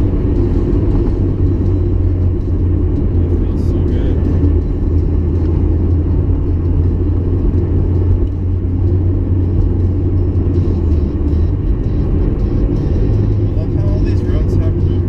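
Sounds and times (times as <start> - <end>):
car engine drone: 0.0 - 15.0
road rumble: 0.0 - 15.0.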